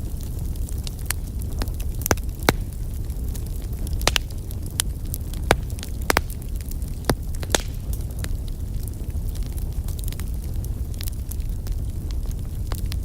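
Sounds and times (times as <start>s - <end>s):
burning logs crackling and popping: 0.0s - 13.0s
fire flames rumbling: 0.0s - 13.0s.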